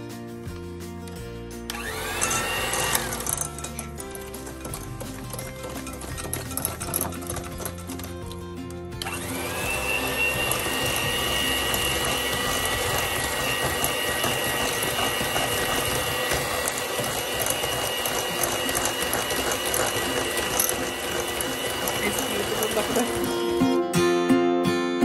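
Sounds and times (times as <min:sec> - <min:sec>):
electric hand mixer whisking: 0:01.7 - 0:23.8.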